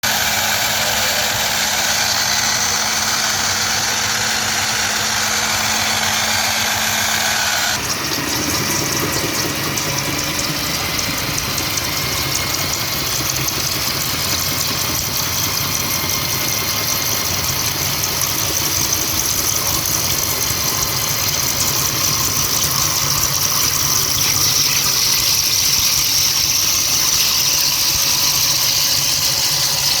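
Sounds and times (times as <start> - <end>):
core drill grinding into rock: 0.0 - 30.0.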